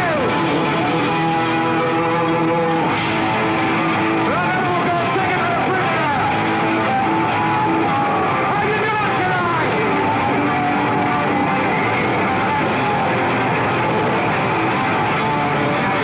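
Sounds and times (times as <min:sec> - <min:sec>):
electric guitar bending notes: 0:00.0 - 0:08.6, 0:09.2 - 0:16.0
heavy metal band playing live: 0:00.0 - 0:16.0.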